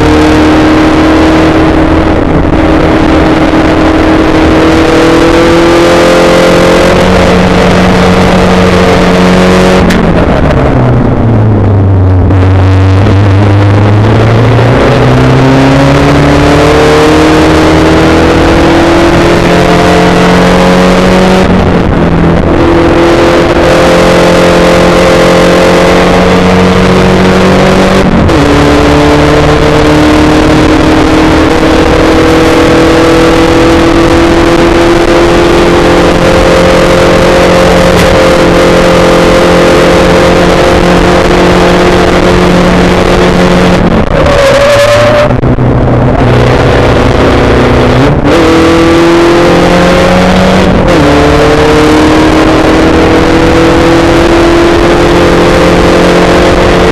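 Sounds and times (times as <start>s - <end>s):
race car engine at full throttle: 0.0s - 56.9s.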